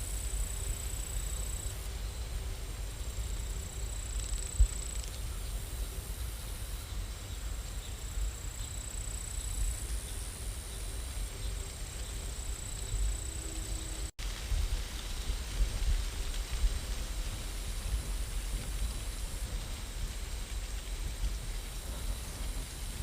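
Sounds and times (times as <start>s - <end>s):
falling rain hiss: 0.0s - 23.0s.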